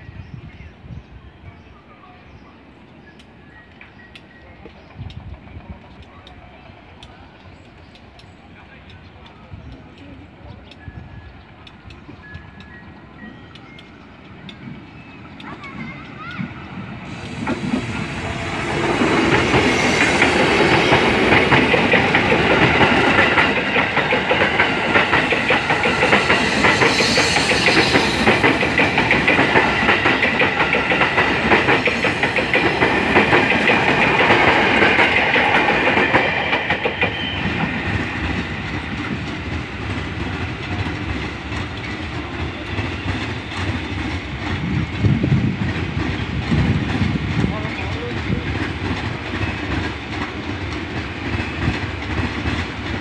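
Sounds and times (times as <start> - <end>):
train high whine: 0.0 - 53.0.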